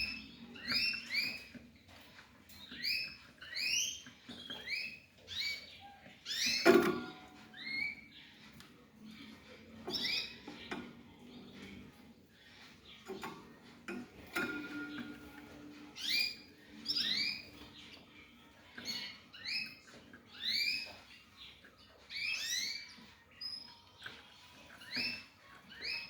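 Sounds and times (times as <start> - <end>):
bird squeaky chirps: 0.0 - 26.0.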